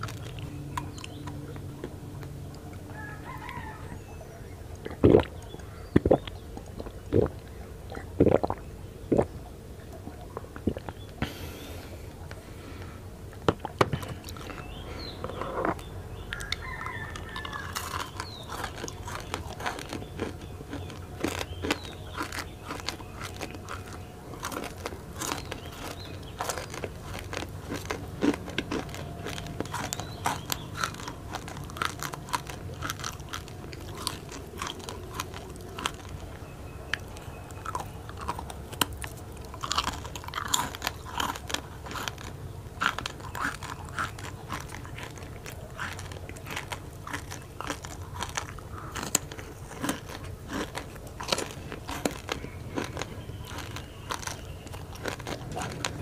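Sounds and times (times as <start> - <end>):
crunching and chewing biscuit sticks: 0.0 - 9.4, 10.0 - 56.0.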